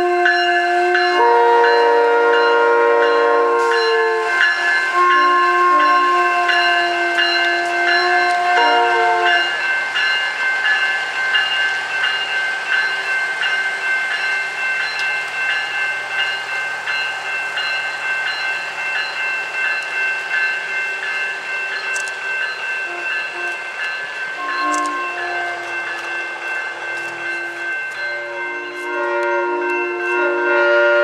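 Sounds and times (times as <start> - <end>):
crossing warning bell ringing: 0.0 - 31.0
train rumbling: 0.0 - 31.0.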